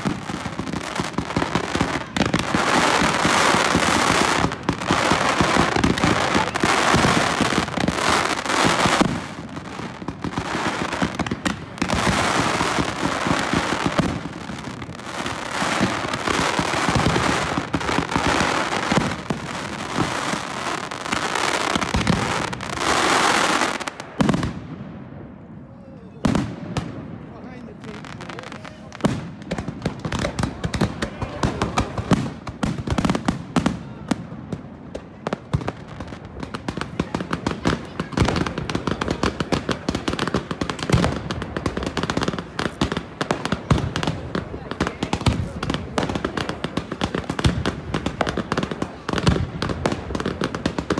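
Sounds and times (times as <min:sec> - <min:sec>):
fireworks bursting overhead: 0:00.0 - 0:50.9.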